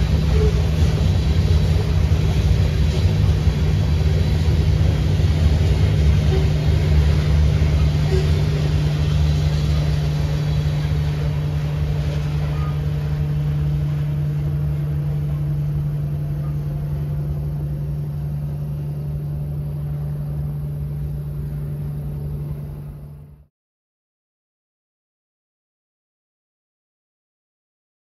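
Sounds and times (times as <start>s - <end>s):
freight train wheels rumbling: 0.0s - 23.4s.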